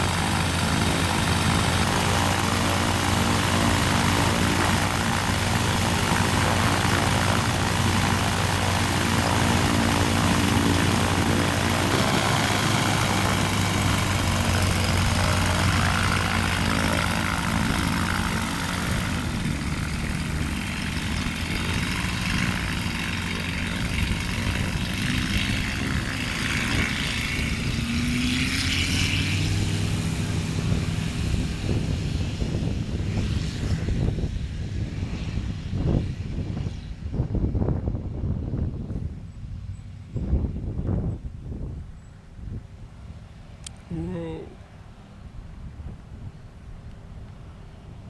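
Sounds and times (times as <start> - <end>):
propeller engine running: 0.0 - 48.0.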